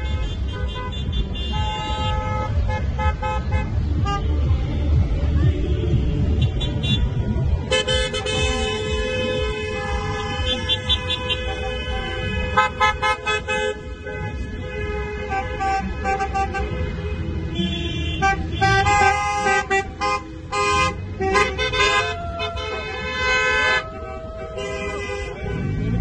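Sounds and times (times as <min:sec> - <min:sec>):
car horns honking: 0:00.0 - 0:04.5, 0:05.4 - 0:26.0
traffic rumble: 0:00.0 - 0:26.0.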